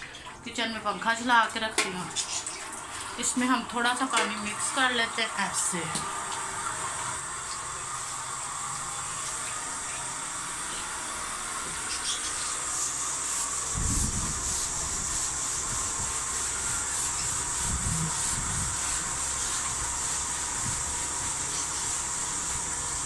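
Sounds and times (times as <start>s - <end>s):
steel wool scrubbing wall: 0.1s - 23.0s.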